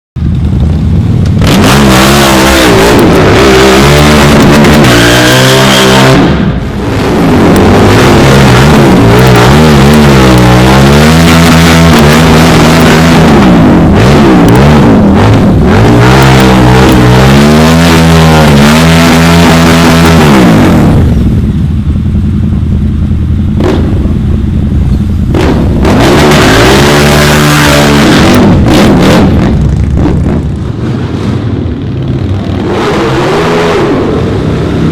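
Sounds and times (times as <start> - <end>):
motorcycle engines revving: 0.2 - 34.9.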